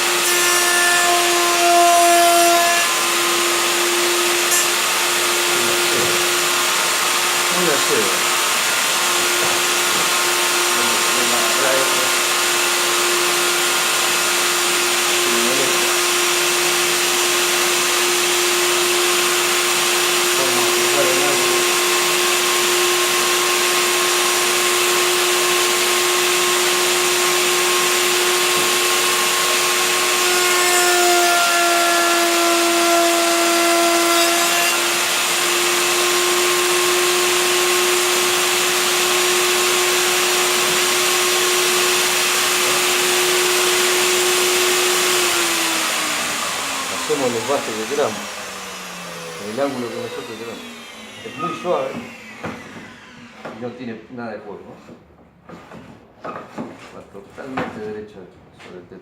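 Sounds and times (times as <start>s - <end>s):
router motor whining: 0.0s - 54.0s
router bit cutting wood: 0.0s - 55.0s.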